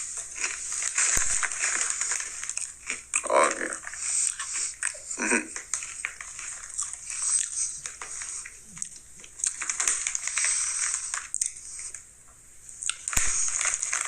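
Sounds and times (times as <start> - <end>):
person chewing potato chips: 0.0 - 12.0, 12.8 - 14.0.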